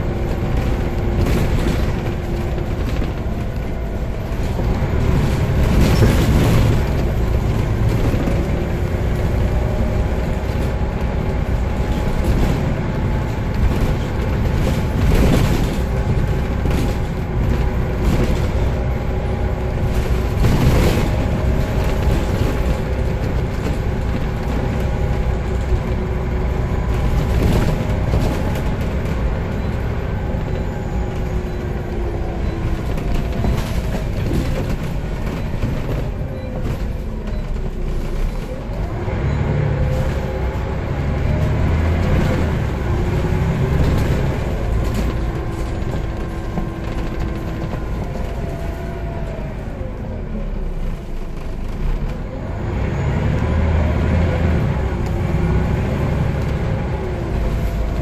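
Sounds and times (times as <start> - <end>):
bus engine rumble: 0.0 - 58.0
knocks and rattles from bus body: 0.0 - 58.0.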